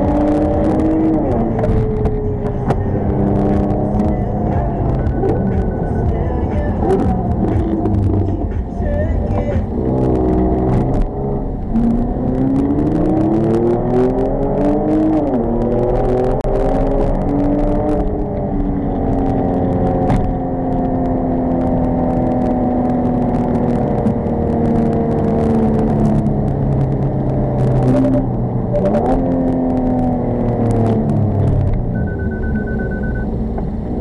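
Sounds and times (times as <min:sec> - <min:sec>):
car engine from inside cabin: 0:00.0 - 0:34.0
tyre and road noise: 0:00.0 - 0:34.0.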